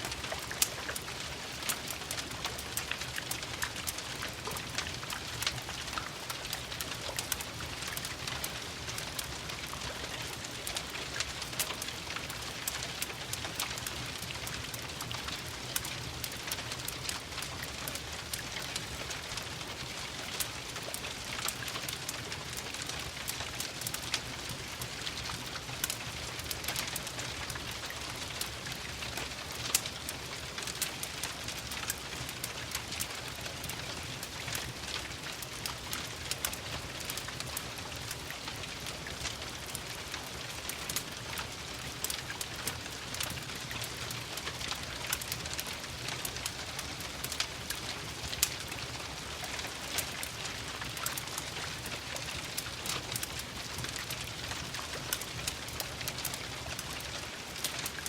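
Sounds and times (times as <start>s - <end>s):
steady rain: 0.0s - 58.0s
wood fire crackling: 0.0s - 58.0s.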